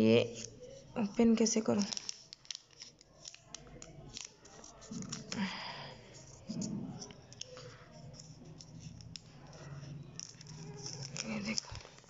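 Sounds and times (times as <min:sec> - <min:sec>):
plastic wrap rustling: 0:00.3 - 0:12.0.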